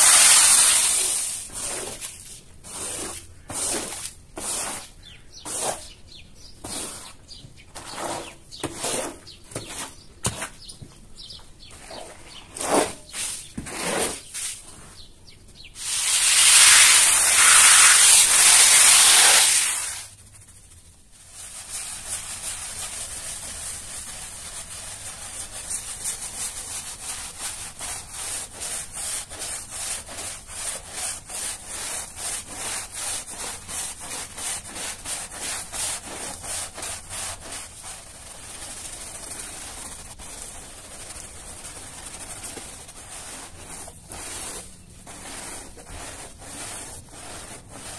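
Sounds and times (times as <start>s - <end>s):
brush scrubbing wet carpet: 0.0s - 6.0s, 6.6s - 10.7s, 15.8s - 47.9s.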